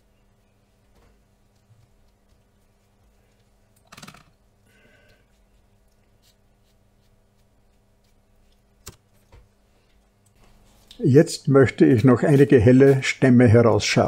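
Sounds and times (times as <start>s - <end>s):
quiet room hum: 0.0s - 14.0s.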